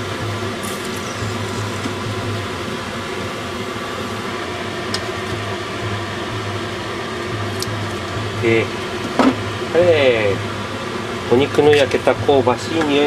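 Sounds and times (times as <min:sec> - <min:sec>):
fan-like machine whirr: 0:00.0 - 0:13.0.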